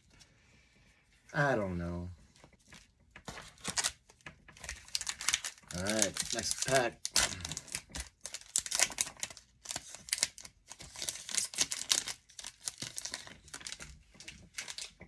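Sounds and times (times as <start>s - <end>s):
foil wrapper crinkling and tearing: 2.5s - 15.0s.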